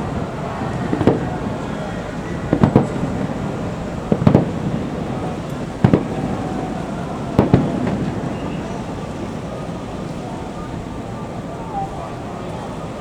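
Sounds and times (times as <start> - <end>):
distant firework booms: 0.0 - 10.6
steady background noise: 0.0 - 13.0.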